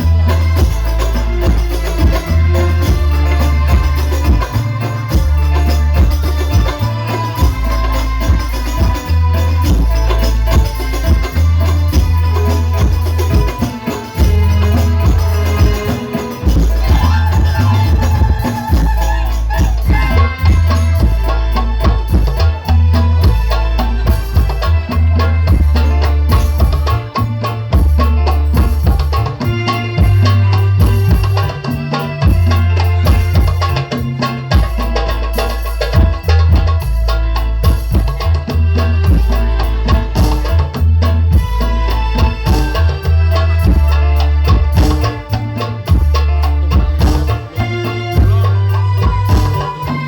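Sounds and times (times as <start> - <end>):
devotional music with hand percussion: 0.0 - 50.0
heavy sustained bass: 0.0 - 50.0.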